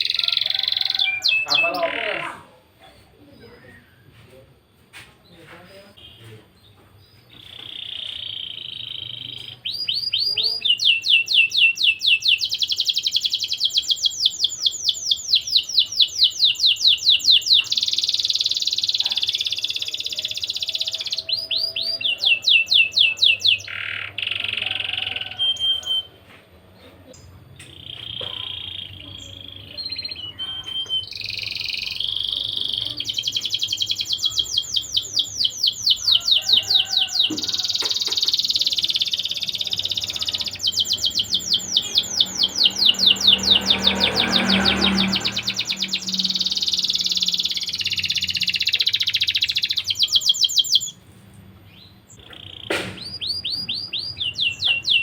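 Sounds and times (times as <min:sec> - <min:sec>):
canary singing trills: 0:00.0 - 0:02.6, 0:05.6 - 0:26.2, 0:27.1 - 0:51.0, 0:51.7 - 0:55.0.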